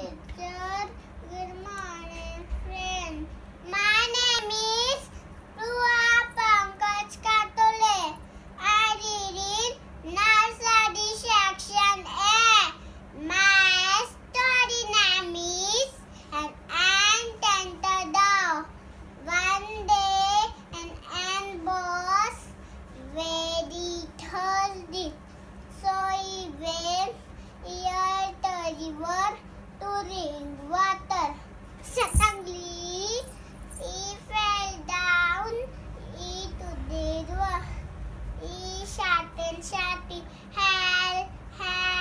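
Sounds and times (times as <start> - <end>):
girl singing: 0.0 - 5.0, 5.6 - 22.4, 23.0 - 25.2, 25.8 - 37.7, 38.4 - 42.0.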